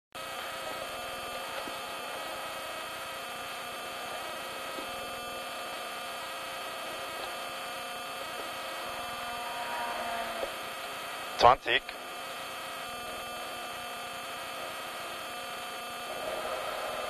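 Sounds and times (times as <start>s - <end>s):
steady hum in car cabin: 0.2s - 17.0s.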